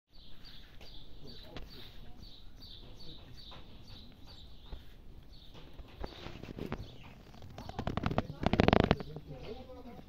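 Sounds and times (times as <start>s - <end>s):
bird chirping: 0.1s - 10.0s.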